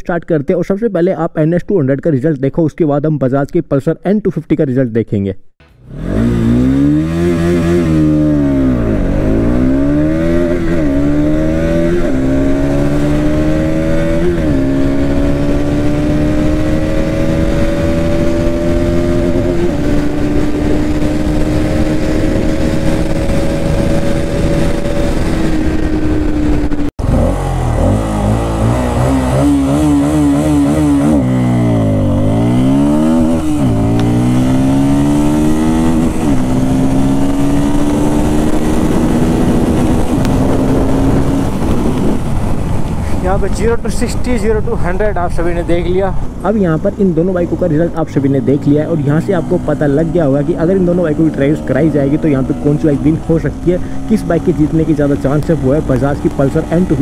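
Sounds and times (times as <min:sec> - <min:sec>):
motorcycle engine accelerating: 0:05.6 - 0:57.0.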